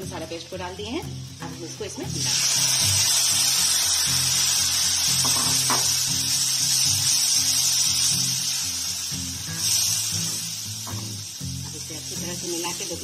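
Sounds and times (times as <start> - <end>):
background music: 0.0 - 13.0
paste sizzling in hot oil: 0.0 - 13.0.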